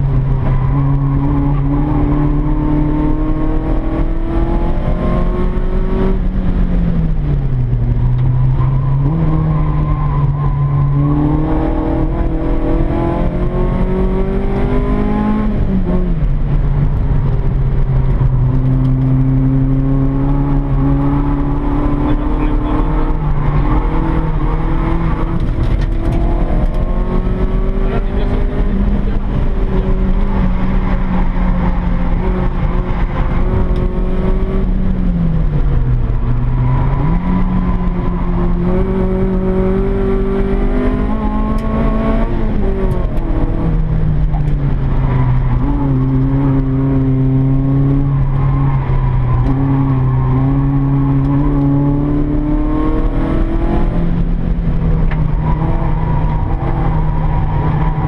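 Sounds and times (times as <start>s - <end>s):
car engine under load: 0.0s - 58.0s.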